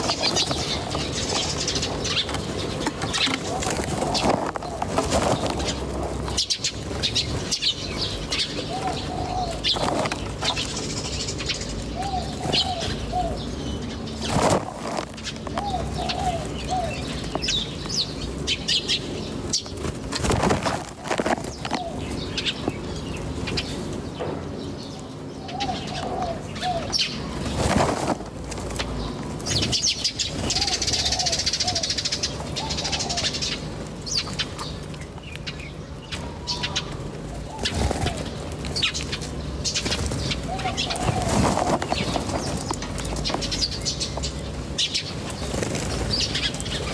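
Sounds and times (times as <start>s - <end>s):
dove cooing: 0.0s - 24.0s, 25.0s - 34.8s, 36.1s - 46.9s
small birds chirping: 0.0s - 46.9s.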